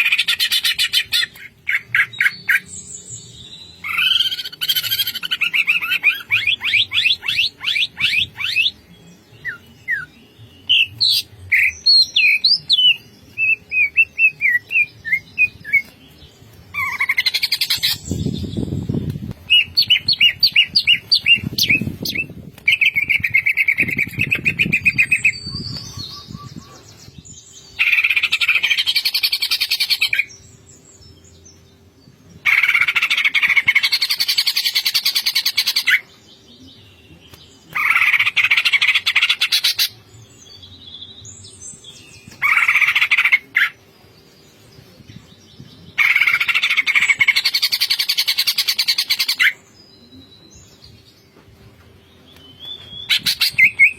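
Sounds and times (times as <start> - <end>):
bird rapid chattering song: 0.0 - 3.1, 3.7 - 8.9, 9.5 - 30.6, 32.4 - 36.2, 36.8 - 51.1, 52.5 - 53.9.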